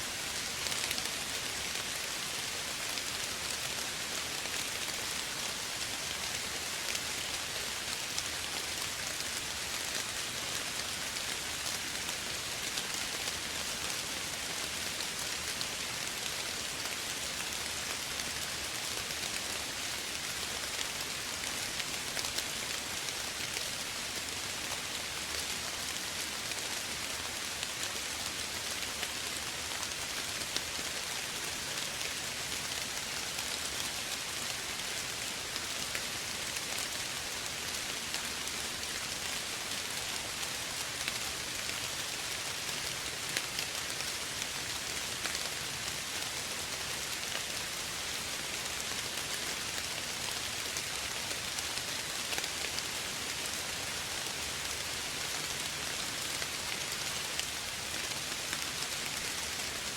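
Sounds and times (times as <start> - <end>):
soft rain pattering: 0.0 - 59.9.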